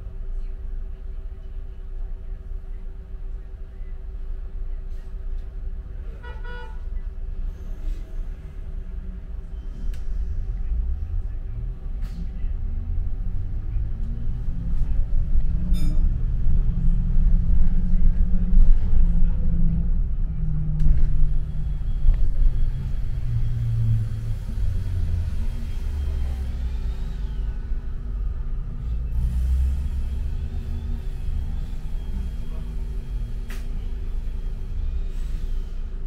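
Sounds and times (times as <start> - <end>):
bus engine rumble: 0.0 - 36.0.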